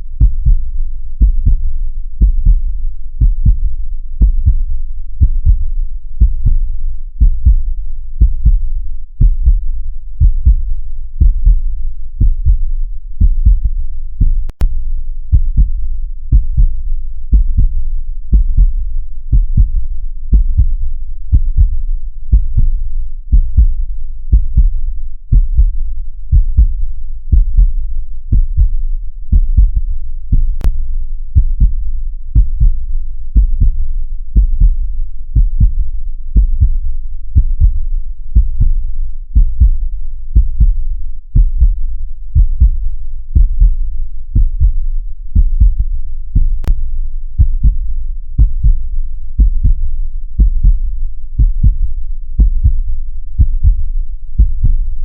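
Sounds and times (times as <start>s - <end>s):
heartbeat double thumps: 0.2s - 1.6s, 2.2s - 2.6s, 3.2s - 30.8s, 31.4s - 31.8s, 32.4s - 34.8s, 35.4s - 36.8s, 37.4s - 40.8s, 41.4s - 55.0s.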